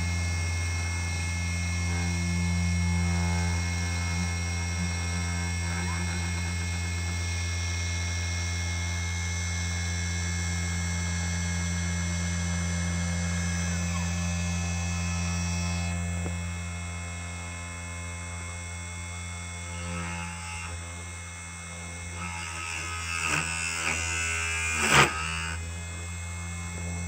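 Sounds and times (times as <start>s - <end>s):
lathe motor hum: 0.0s - 27.0s
steady whining tones: 0.0s - 27.0s.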